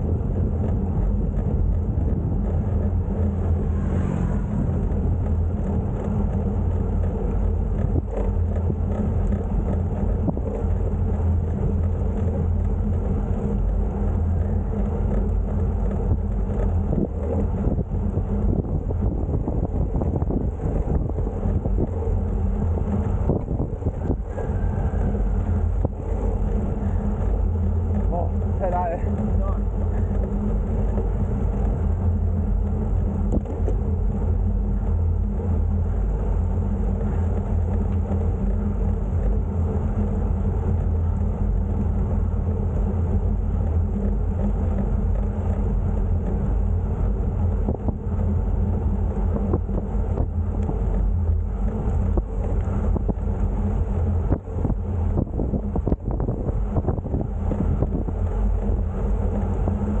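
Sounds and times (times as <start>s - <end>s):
road noise: 0.0s - 60.0s
wind on microphone: 0.0s - 60.0s.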